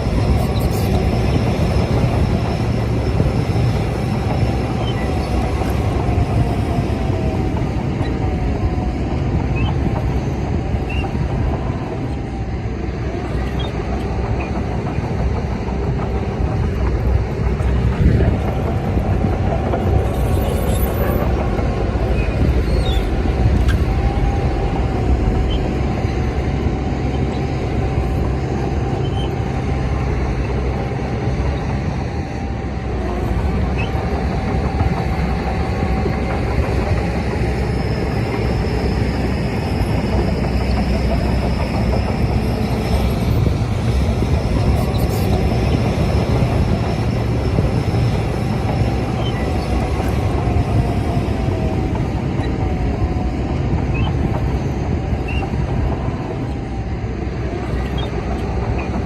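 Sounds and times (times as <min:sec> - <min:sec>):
diesel engine under load: 0:00.0 - 0:59.0
steel tracks clattering: 0:00.0 - 0:59.0.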